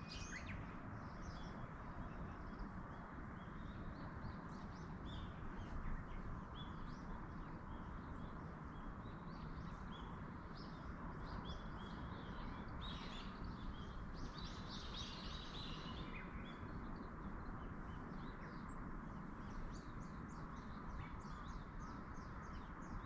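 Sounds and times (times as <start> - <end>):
small birds chirping: 0.0 - 23.0
wind in the trees: 0.0 - 23.0.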